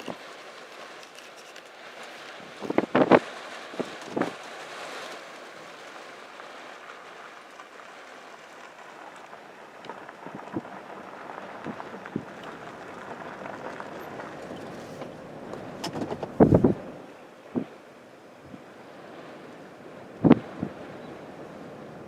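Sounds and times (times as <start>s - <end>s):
rain and wind hissing: 0.0s - 22.0s.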